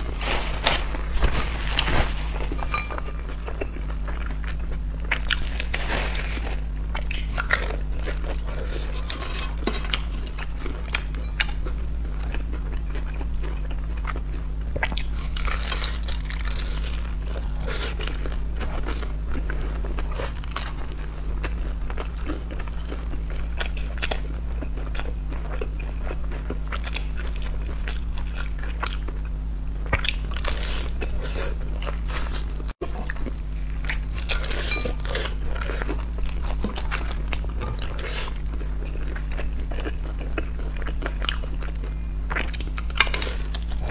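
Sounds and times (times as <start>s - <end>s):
crunching and chewing food: 0.0s - 43.9s
steady low hum: 0.0s - 43.9s.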